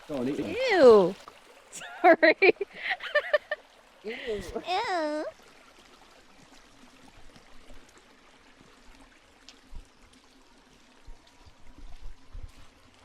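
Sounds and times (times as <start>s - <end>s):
running water hissing: 0.0s - 13.0s.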